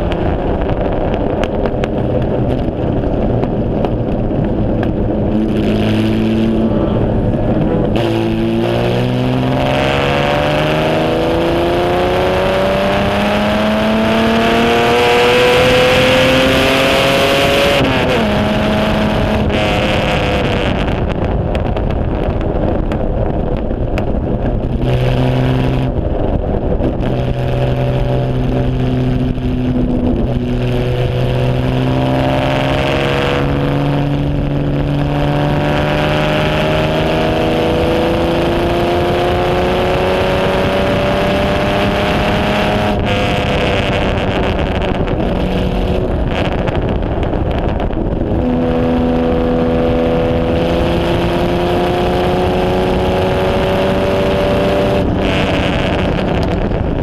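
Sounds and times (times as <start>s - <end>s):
racing car engine revving: 0.0s - 21.1s, 24.6s - 57.0s
wind rushing over open cockpit: 0.0s - 57.0s.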